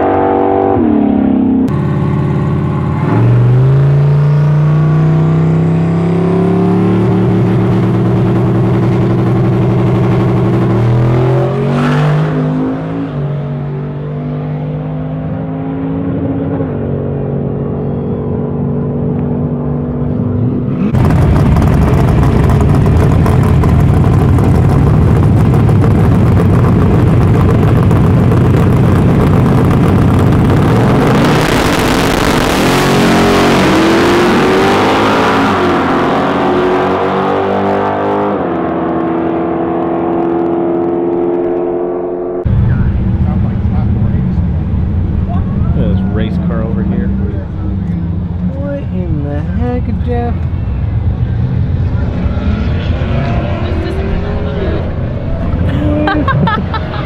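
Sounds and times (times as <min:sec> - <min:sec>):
loud close-up engine: 0:00.0 - 0:57.0
racing car engine at full throttle: 0:00.0 - 0:57.0.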